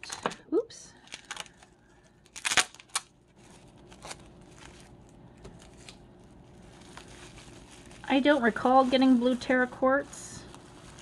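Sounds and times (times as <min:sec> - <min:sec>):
plastic wrapping crinkling: 0:00.0 - 0:11.0
plastic wrapping ripping: 0:01.0 - 0:11.0.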